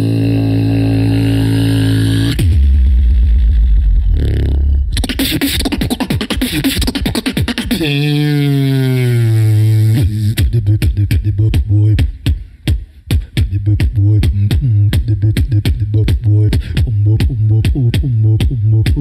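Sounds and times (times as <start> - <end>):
person beatboxing into a microphone: 0.0 - 2.8, 4.0 - 19.0.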